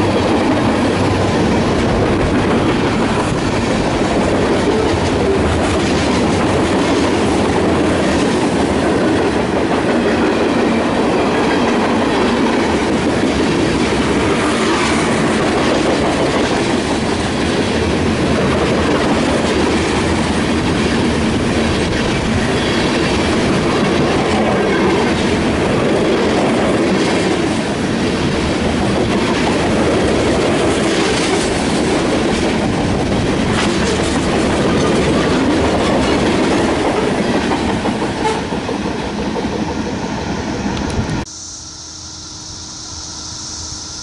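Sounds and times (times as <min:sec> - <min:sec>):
steel wheels rumbling on rail: 0:00.0 - 0:41.3.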